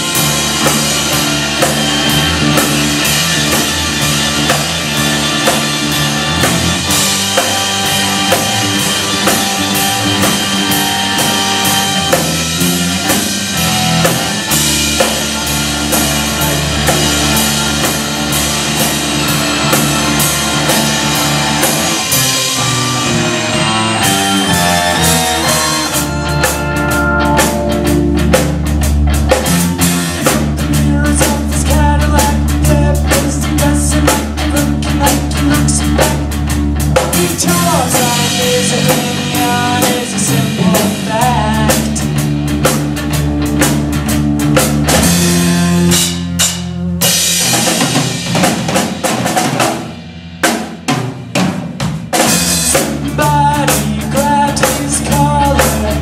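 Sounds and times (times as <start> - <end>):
keyboard: 0.0 - 50.1
busy drum kit: 0.0 - 56.0
electric bass: 0.0 - 56.0
electric guitar: 0.0 - 56.0.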